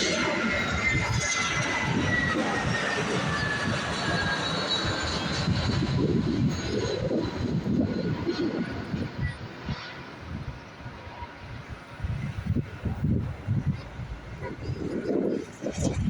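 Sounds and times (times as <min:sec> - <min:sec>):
jet plane landing: 0:00.0 - 0:16.0.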